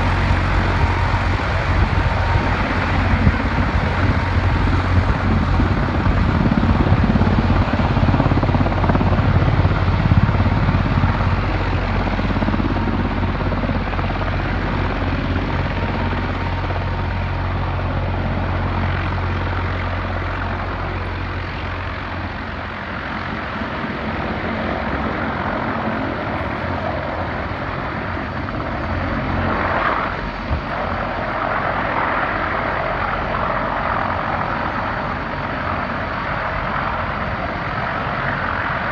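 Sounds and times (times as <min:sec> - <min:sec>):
helicopter rotor beat: 0:00.0 - 0:38.9
turbine noise: 0:00.0 - 0:38.9.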